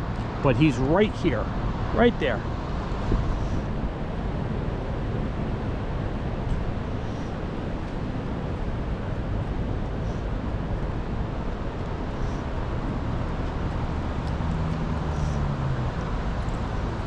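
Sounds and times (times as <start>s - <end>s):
wind buffeting microphone: 1.3s - 17.0s.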